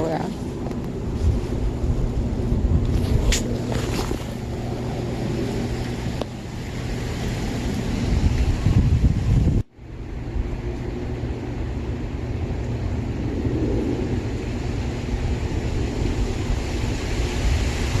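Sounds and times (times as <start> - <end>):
strong gusting wind: 0.0 - 18.0
wind buffeting microphone: 0.0 - 18.0.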